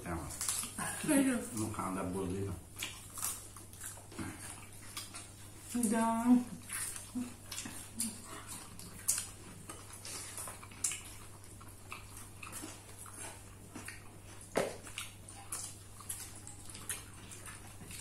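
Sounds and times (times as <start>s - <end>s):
low electrical hum: 0.0s - 18.0s
chewing and wet mouth clicks: 2.7s - 18.0s.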